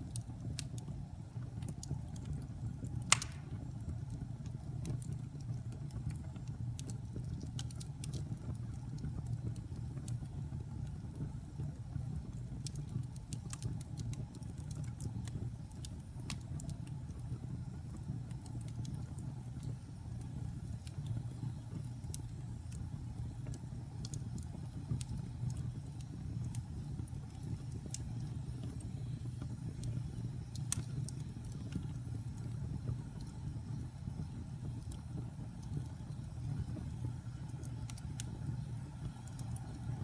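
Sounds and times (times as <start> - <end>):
fire crackles and pops: 0.0 - 40.0
fire rumbling: 0.0 - 40.0.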